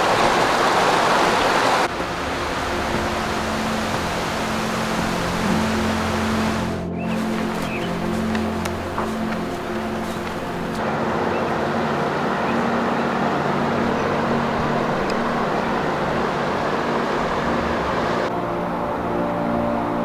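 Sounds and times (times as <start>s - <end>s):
background music sustained tones: 0.0s - 20.0s
creek water flowing: 0.0s - 20.0s.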